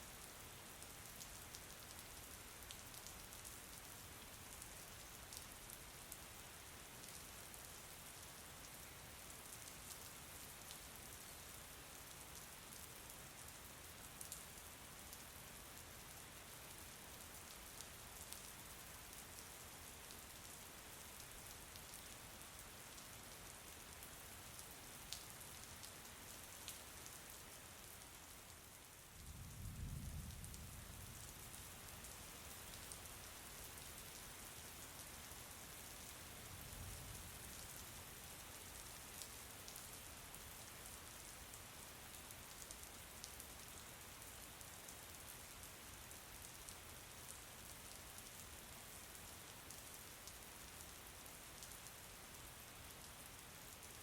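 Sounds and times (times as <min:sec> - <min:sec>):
faint rain falling: 0:00.0 - 0:54.0.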